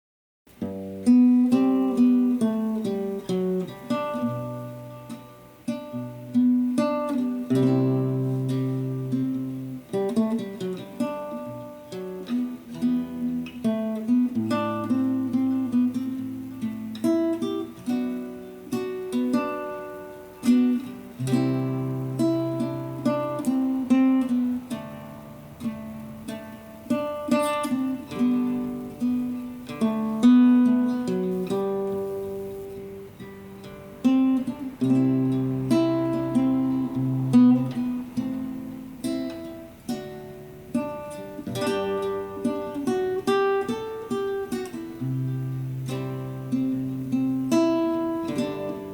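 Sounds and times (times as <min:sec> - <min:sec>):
acoustic guitar slow melody: 0:00.5 - 0:48.9.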